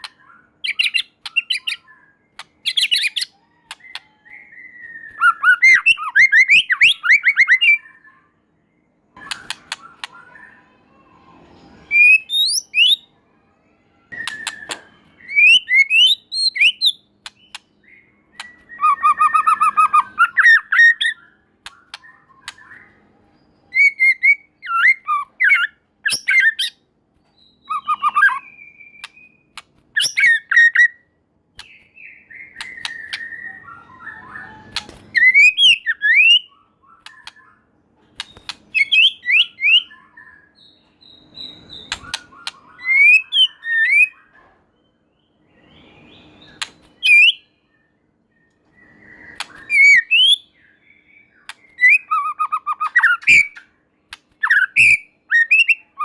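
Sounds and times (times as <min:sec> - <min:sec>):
bird singing whistles and trills: 0:00.0 - 0:13.1, 0:14.0 - 0:53.8, 0:54.4 - 0:56.0.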